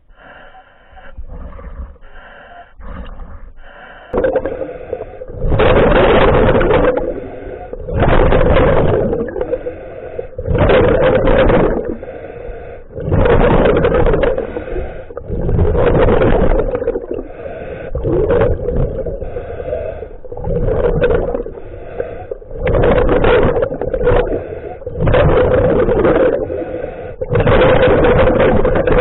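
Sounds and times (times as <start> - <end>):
diver exhaling bubbles underwater: 0.2 - 12.2, 12.9 - 29.0.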